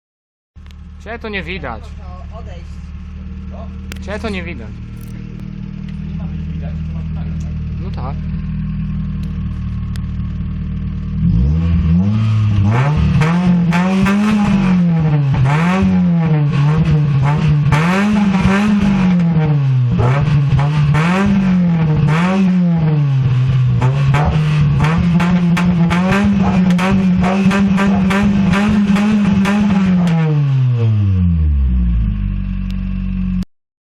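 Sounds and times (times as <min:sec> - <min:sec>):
car engine revving: 0:00.6 - 0:33.4.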